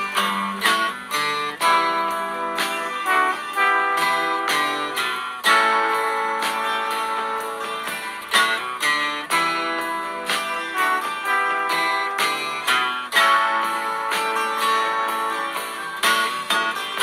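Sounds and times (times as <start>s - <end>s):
plucked string music: 0.0s - 17.0s.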